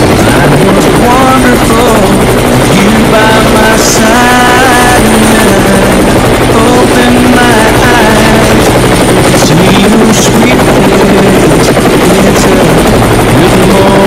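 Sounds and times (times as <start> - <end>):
helicopter engine noise: 0.0 - 14.0
helicopter rotor chopping: 0.0 - 14.0.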